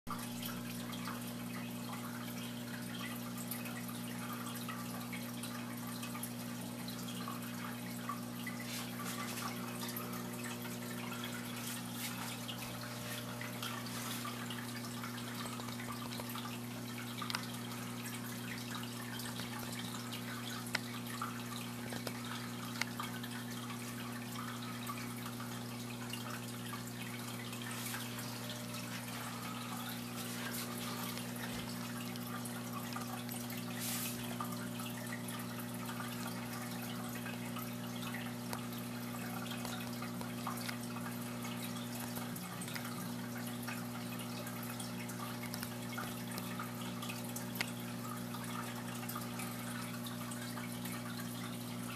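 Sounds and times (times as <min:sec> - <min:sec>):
air bubbles fizzing in water: 0:00.1 - 0:51.9
aquarium pump hum: 0:00.1 - 0:51.9.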